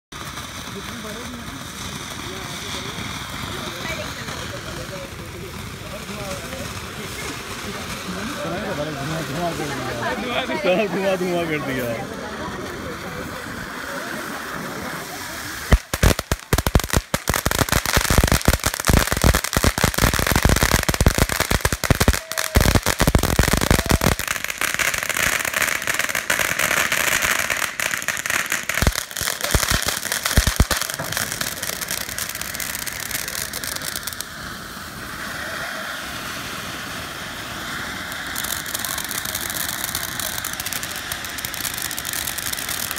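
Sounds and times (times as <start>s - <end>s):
spark fountains crackling and hissing: 0.1s - 42.9s.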